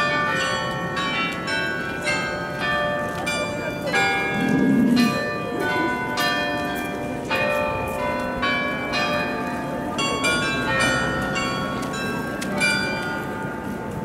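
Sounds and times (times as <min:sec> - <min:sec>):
carillon bells playing a tune: 0:00.0 - 0:14.0.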